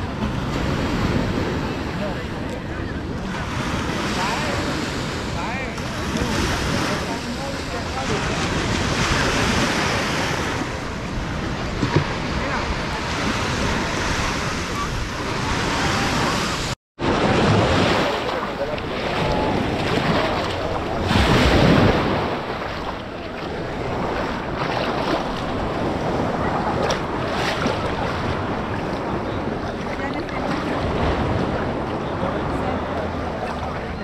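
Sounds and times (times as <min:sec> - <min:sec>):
waves washing onto beach: 0:00.0 - 0:34.0
wind buffeting microphone: 0:00.0 - 0:34.0.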